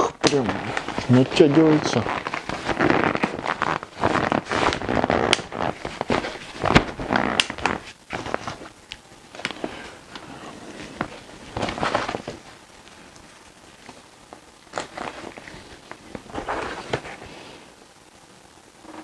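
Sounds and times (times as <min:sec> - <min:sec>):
fabric rustling and crinkling: 0:00.2 - 0:18.2.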